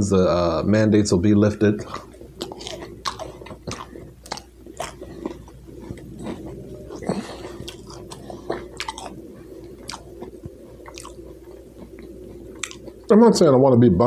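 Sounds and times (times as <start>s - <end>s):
man chewing food: 1.6s - 13.2s.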